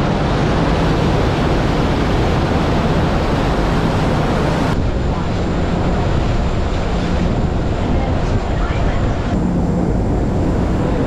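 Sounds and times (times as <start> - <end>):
boat engines droning: 0.0 - 11.0
churning rush of wake: 0.0 - 11.0
wind buffeting microphone: 0.0 - 11.0.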